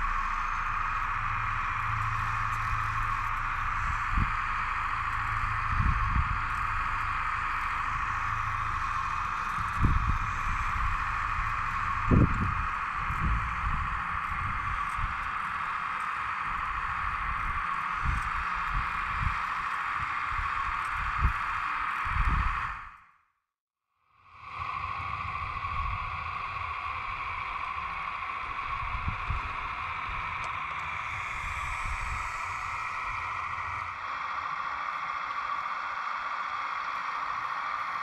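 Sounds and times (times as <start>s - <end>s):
hydraulic pump whining: 0.0s - 22.9s, 24.8s - 38.0s.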